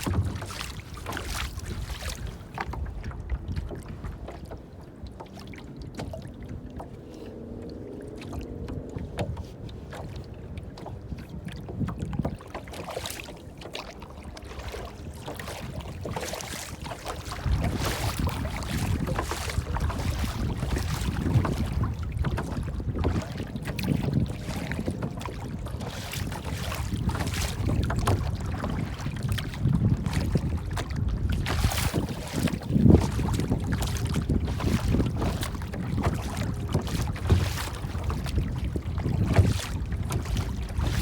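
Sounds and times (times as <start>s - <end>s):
water splashing and lapping: 0.0s - 41.0s
low wind rumble: 4.9s - 12.4s, 14.2s - 41.0s.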